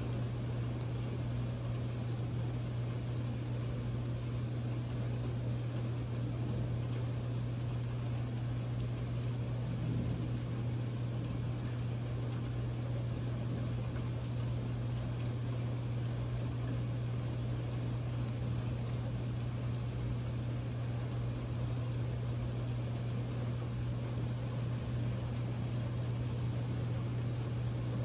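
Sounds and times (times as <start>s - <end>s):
constant low hum: 0.0s - 28.0s
steady rain falling: 0.0s - 28.0s.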